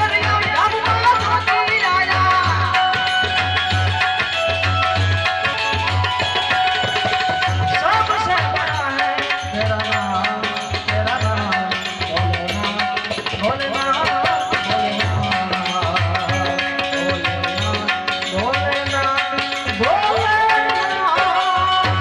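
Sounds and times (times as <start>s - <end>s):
man singing: 0.0s - 3.4s, 7.7s - 22.0s
hand drum beating: 0.0s - 22.0s
quick metallic percussion: 0.0s - 22.0s.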